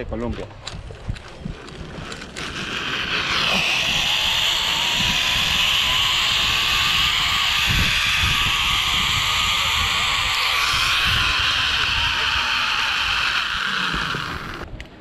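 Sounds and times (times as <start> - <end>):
zipline trolley whirring: 1.2 - 14.7
faint whine: 2.4 - 14.7.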